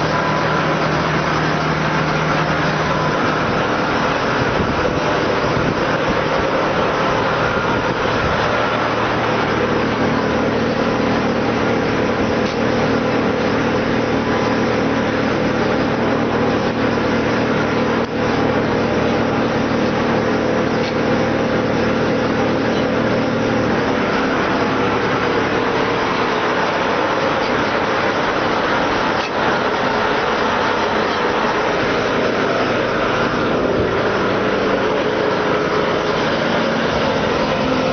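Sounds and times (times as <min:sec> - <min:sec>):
wood chipper running: 0:00.0 - 0:37.9.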